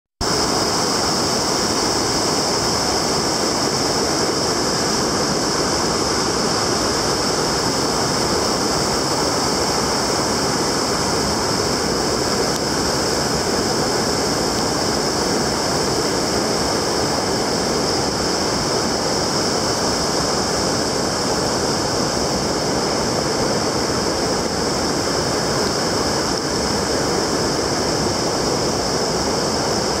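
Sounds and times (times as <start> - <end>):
high hiss: 0.2 - 30.0
river rushing over rocks: 0.2 - 30.0.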